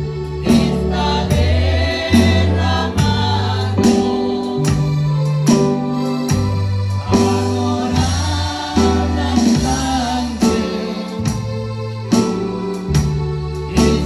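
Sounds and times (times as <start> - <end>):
bass guitar notes: 0.0 - 14.0
group singing a hymn: 0.0 - 14.0.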